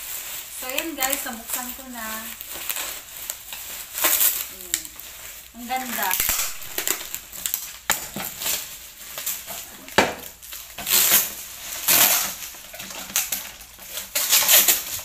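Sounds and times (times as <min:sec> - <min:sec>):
plastic packaging rustling: 0:00.0 - 0:15.0.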